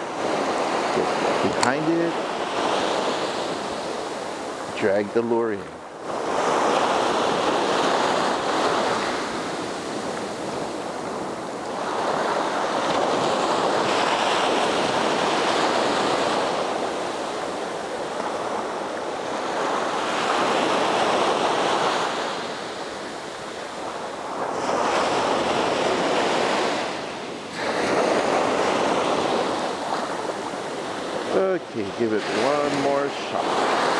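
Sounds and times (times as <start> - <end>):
small waves breaking on sand: 0.0 - 33.9.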